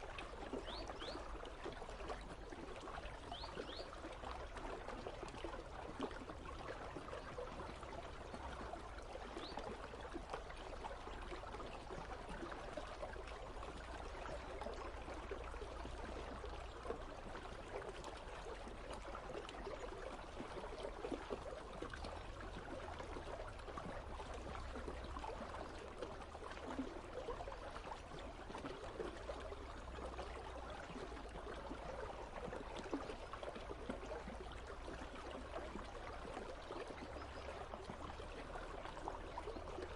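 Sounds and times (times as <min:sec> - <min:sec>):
river water running and trickling: 0:00.0 - 0:39.9.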